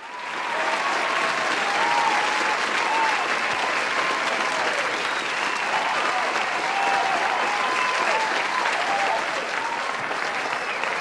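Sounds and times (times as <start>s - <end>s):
cheering and whooping voices: 0.0s - 11.0s
crowd applauding: 0.0s - 11.0s.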